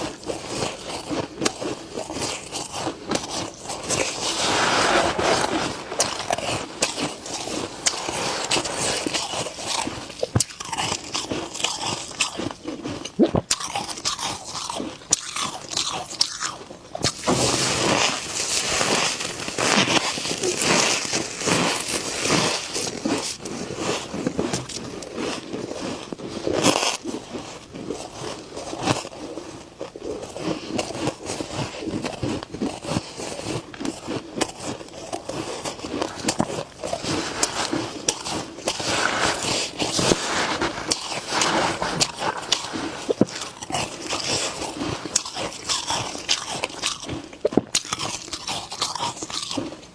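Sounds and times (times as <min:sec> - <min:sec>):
frost being bitten and chewed: 0:00.0 - 0:04.6, 0:05.2 - 0:49.9.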